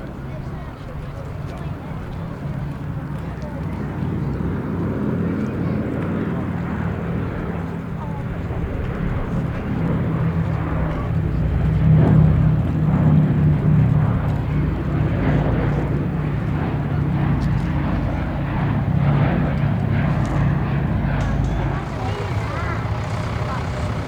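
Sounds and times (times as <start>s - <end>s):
aircraft radial engines droning: 1.7s - 24.0s.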